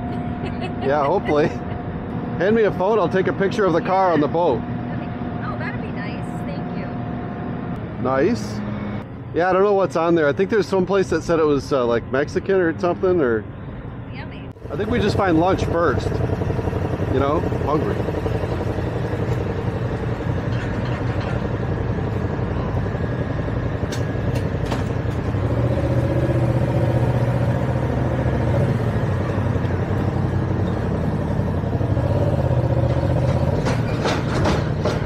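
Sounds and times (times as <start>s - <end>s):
low engine drone: 0.0s - 35.0s.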